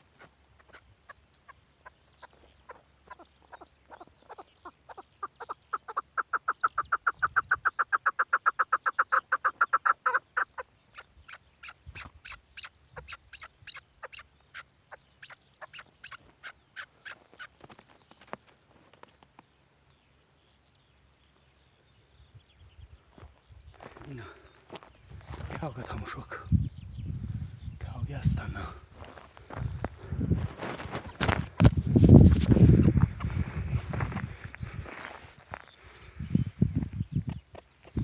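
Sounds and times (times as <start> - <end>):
partridge clucking calls: 0.0 - 19.5, 23.1 - 26.6, 28.2 - 38.0.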